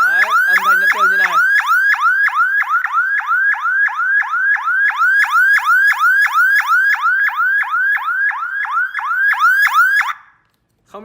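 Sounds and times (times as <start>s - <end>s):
electronic siren horn chirping: 0.0s - 10.3s.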